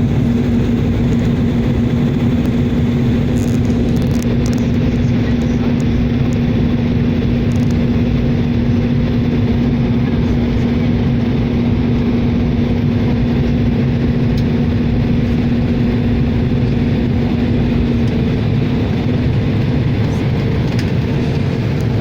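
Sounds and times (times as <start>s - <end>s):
held hum: 0.0s - 22.0s
propeller aircraft engine droning: 0.0s - 22.0s.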